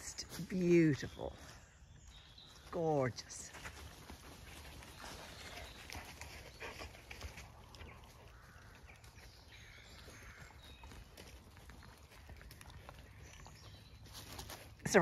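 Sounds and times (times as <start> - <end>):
rustling of dry leaves and sticks: 0.0 - 15.0.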